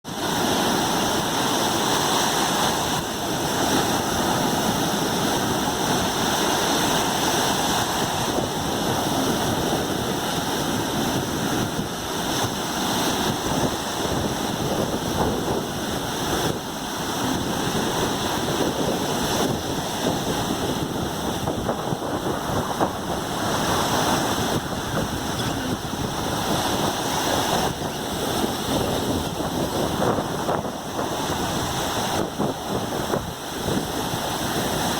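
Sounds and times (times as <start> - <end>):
surf waves breaking on beach: 0.0 - 34.9
wind buffeting microphone: 0.1 - 34.9.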